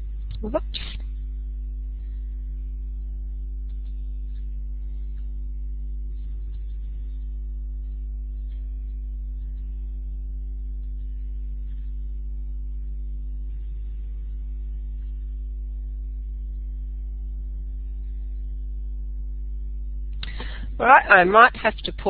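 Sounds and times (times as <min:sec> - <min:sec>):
electrical hum and buzz: 0:00.0 - 0:22.0.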